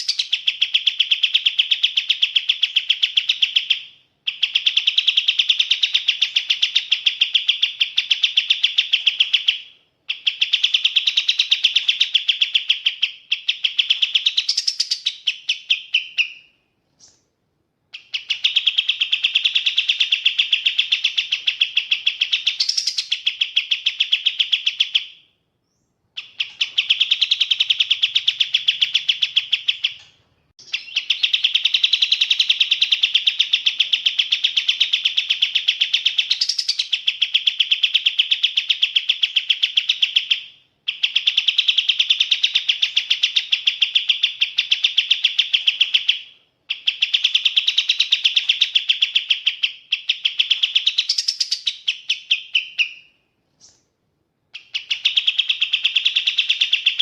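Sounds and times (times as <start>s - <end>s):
songbird trilling: 0.0s - 17.2s, 17.9s - 53.8s, 54.6s - 57.0s.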